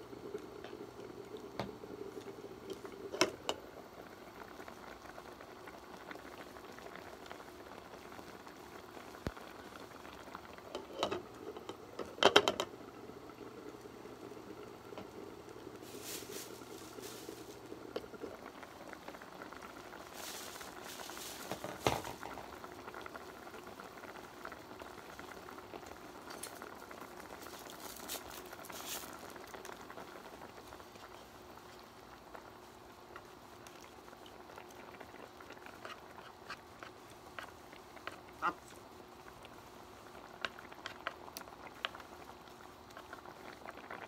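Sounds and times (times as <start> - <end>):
pot bubbling: 0.0 - 44.0.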